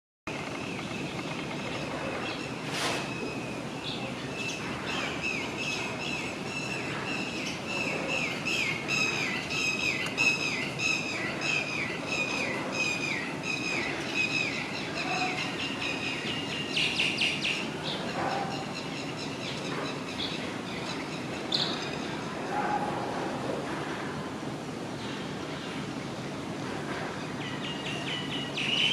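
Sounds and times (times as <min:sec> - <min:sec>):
steady outdoor hiss: 0:00.3 - 0:28.9.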